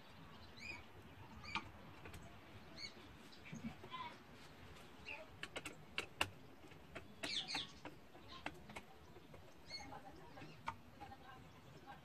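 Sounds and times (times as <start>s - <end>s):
bird chirp: 0.0s - 3.8s, 4.7s - 12.0s.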